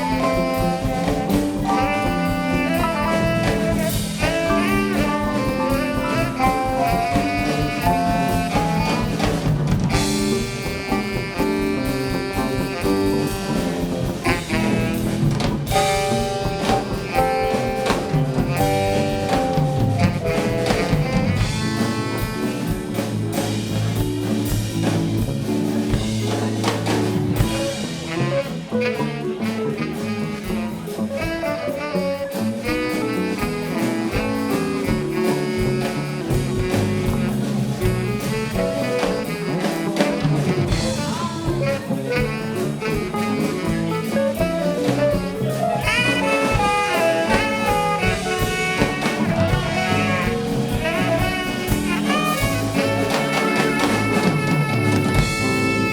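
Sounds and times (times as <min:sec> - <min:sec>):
drum kit groove: 0:00.0 - 0:55.9
lead line with sliding notes: 0:00.0 - 0:55.9
live jazz band playing: 0:00.0 - 0:55.9.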